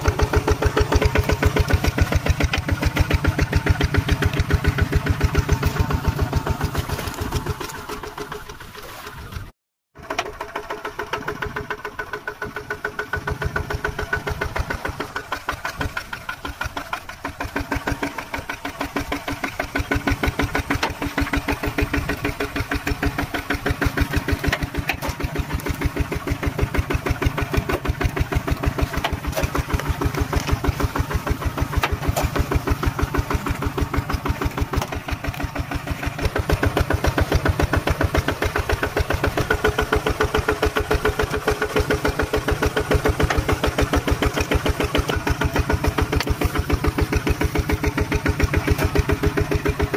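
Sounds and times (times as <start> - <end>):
diesel tractor engine thudding: 0.0 - 8.6, 10.0 - 49.9.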